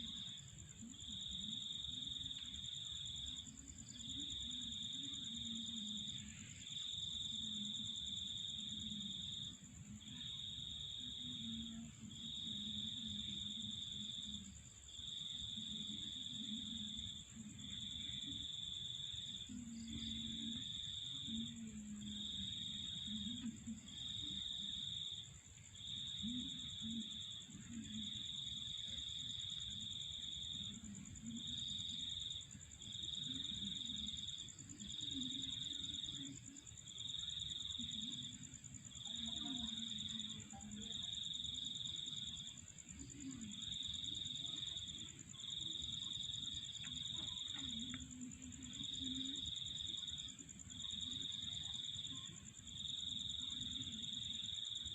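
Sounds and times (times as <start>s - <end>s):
lower insect trill: 0.0s - 54.9s.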